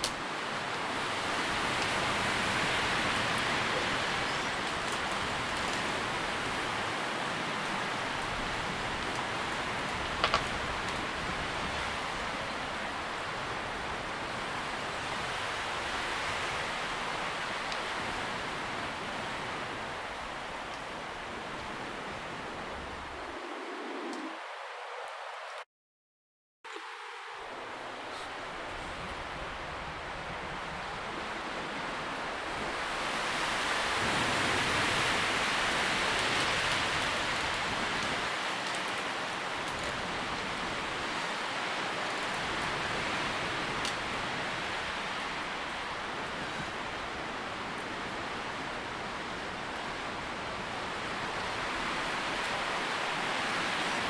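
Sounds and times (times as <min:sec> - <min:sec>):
wind rustling tree leaves: 0:00.0 - 0:25.6, 0:26.7 - 0:54.0.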